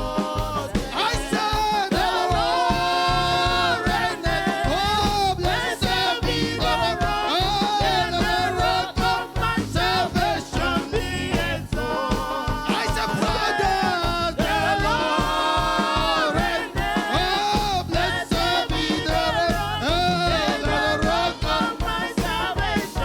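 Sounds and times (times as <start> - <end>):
accompanying instruments: 0.0 - 23.0
congregation singing: 0.0 - 23.0
steady drum beat: 0.0 - 23.0.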